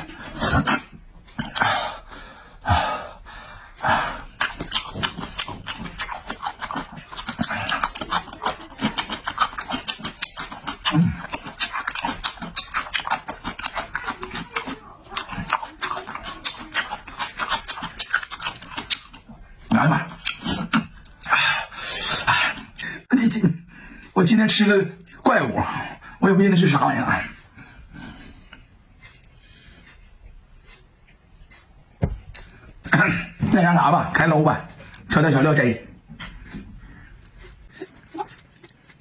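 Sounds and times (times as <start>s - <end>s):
person chewing noisily: 0.0s - 23.1s, 26.6s - 39.0s.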